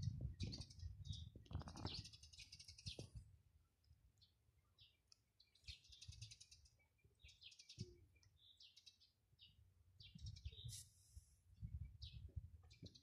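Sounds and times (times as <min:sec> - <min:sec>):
small birds chirping and trilling: 0:00.0 - 0:10.9, 0:11.5 - 0:13.0.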